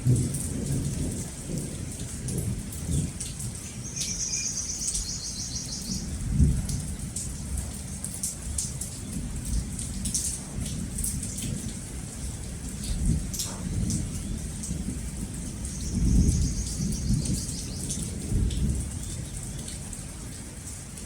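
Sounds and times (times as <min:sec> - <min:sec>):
low rolling thunder: 0:00.0 - 0:04.2, 0:05.8 - 0:08.6, 0:09.2 - 0:20.0
rain pattering: 0:00.0 - 0:21.0.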